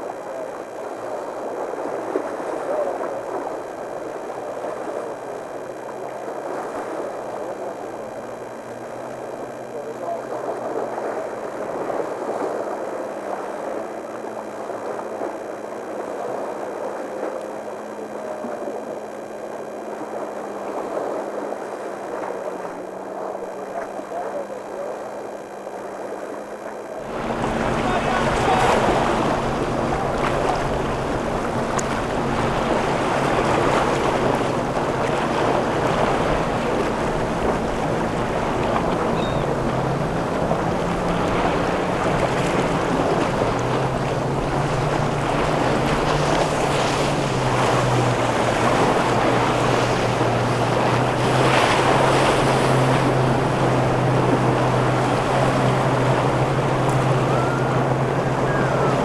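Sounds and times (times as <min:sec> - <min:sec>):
choppy water: 0:00.0 - 0:59.0
outboard engines droning: 0:00.0 - 0:59.0.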